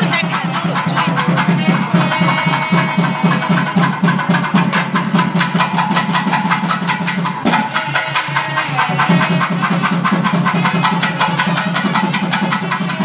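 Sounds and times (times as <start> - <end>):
fast continuous drumming: 0.0 - 13.0.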